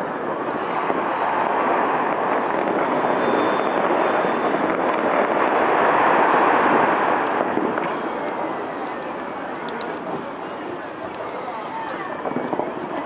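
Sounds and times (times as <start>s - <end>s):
fireworks crackling rumble: 0.0s - 13.0s.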